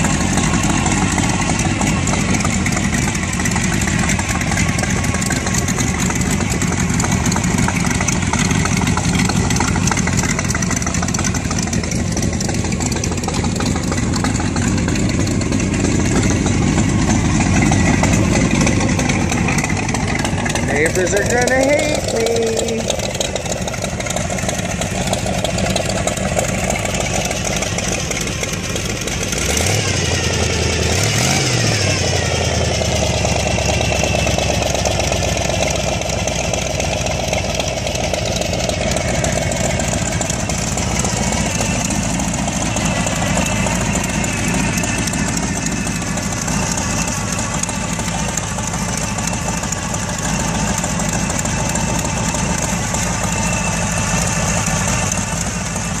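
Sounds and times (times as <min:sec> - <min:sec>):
car engine idling loudly: 0:00.0 - 0:56.0.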